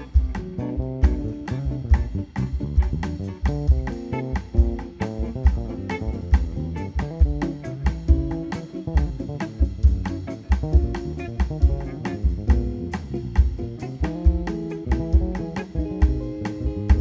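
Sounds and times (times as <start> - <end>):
bass: 0.0 - 17.0
drum kit steady beat: 0.0 - 17.0
guitar chords: 0.0 - 17.0.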